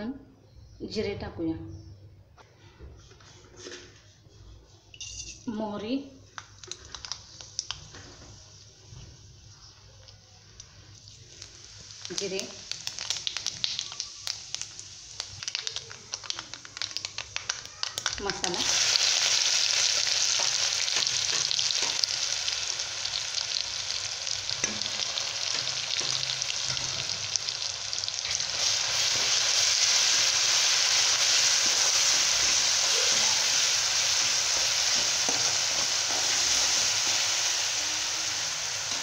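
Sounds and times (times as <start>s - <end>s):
paste sizzling in hot oil: 6.5s - 39.0s.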